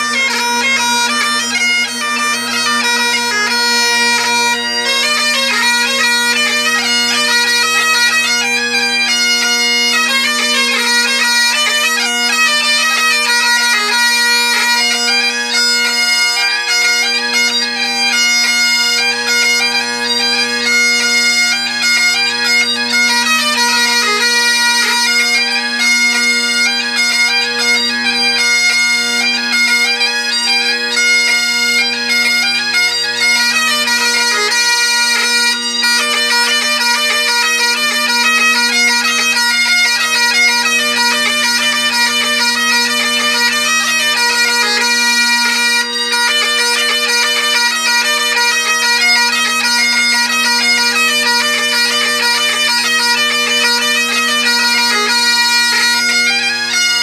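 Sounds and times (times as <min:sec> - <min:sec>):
bagpipe chanter melody: 0:00.0 - 0:57.0
bagpipe drones: 0:00.0 - 0:57.0.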